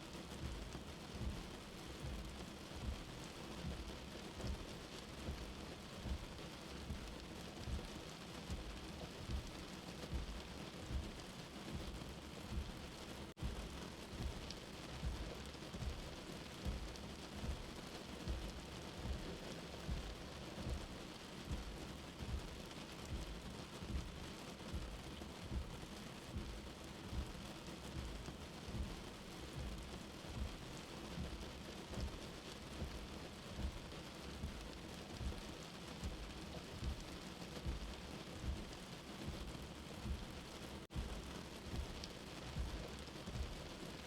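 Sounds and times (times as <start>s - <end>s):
steady rain: 0.0s - 44.0s
heartbeat thumping: 0.4s - 44.0s.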